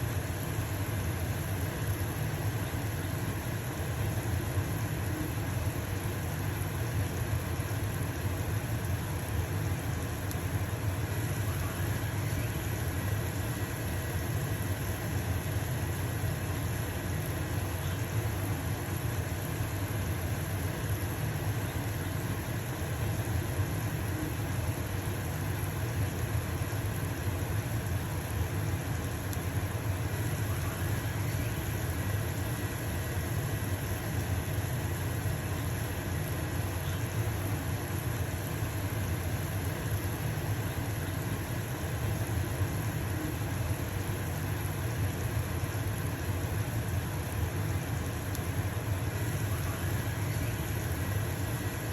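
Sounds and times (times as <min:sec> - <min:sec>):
exhaust fan humming: 0:00.0 - 0:51.9.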